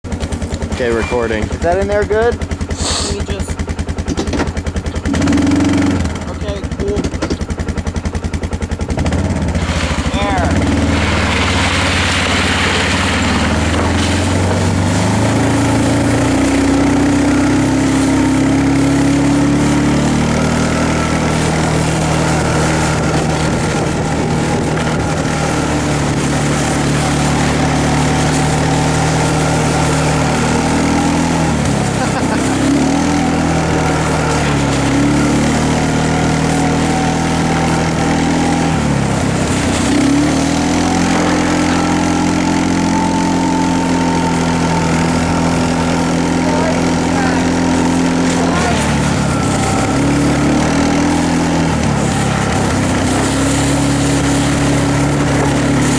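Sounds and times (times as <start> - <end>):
small petrol engine running: 0.0 - 55.9.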